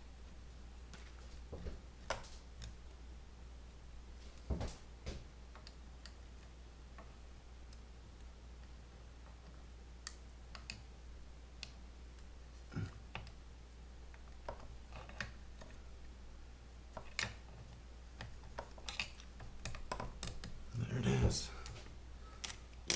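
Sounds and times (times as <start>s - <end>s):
low steady hum: 0.0s - 22.9s.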